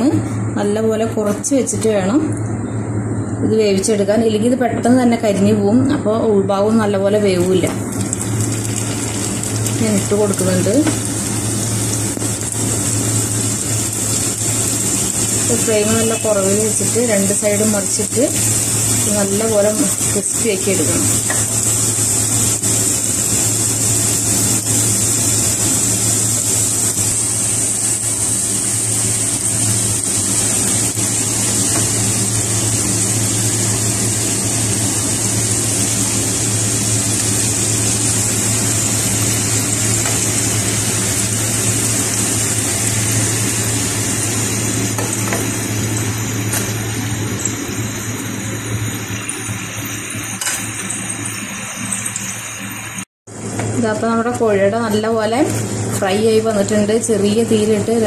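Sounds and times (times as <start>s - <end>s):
pastries frying in hot oil: 6.6s - 58.0s.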